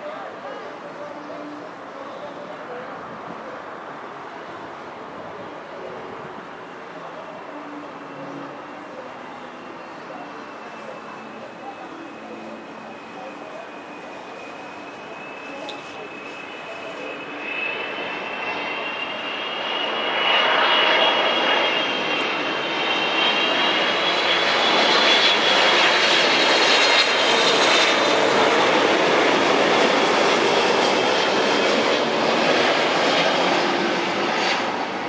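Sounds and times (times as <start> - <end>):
jet airliner roar with fan whine: 0.0 - 35.0.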